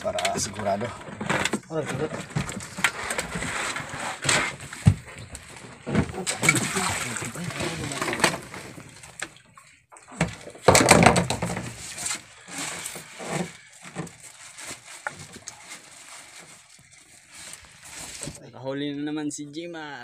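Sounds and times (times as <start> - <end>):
seawater splashing against boat: 0.0 - 18.4.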